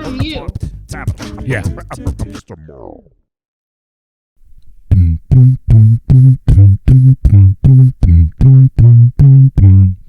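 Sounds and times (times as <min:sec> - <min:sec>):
beatboxing bass notes: 0:00.0 - 0:03.1, 0:04.9 - 0:10.0.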